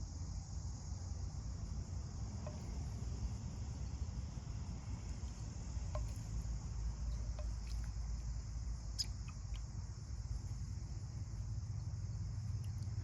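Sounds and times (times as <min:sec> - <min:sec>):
high insect chorus: 0:00.0 - 0:13.0.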